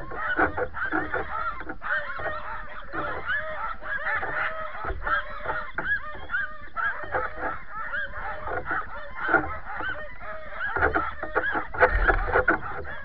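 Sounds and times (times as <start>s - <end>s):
sled dogs yelping and barking: 0.0s - 13.0s.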